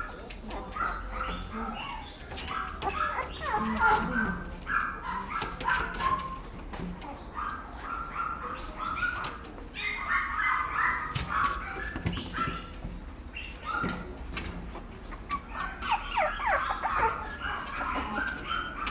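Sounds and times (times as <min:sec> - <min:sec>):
puppy whining: 0:00.0 - 0:12.7, 0:13.4 - 0:18.9.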